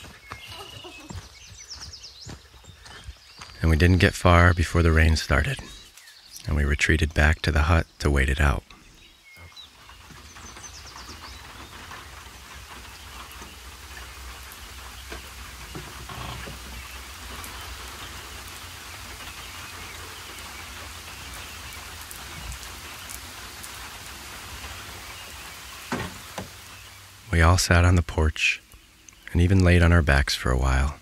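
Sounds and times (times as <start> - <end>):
rain on a corrugated roof: 4.2 - 31.0.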